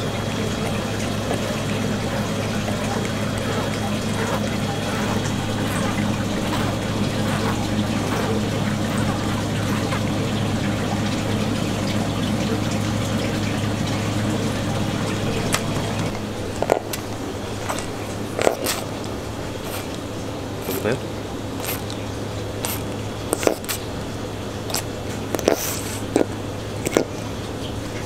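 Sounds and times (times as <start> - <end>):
low hum: 0.0 - 25.4
running water rushing: 0.0 - 28.0.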